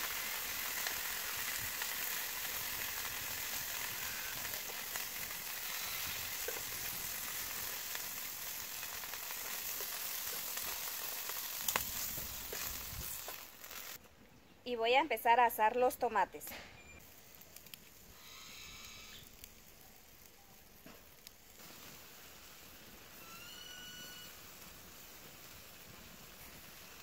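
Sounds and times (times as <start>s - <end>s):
chicken sizzling in hot oil: 0.0s - 14.0s, 17.0s - 27.0s.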